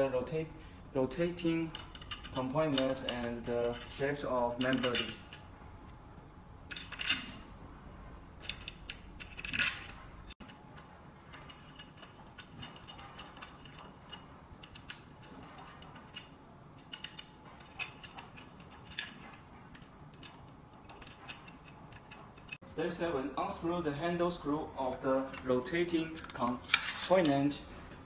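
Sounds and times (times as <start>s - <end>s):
metal parts clicking and tapping: 1.2s - 6.0s, 6.6s - 7.4s, 8.4s - 22.6s, 25.1s - 28.0s.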